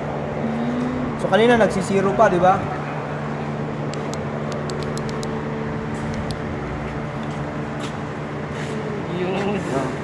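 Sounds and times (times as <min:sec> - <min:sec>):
gasoline engine humming: 0:00.0 - 0:10.0.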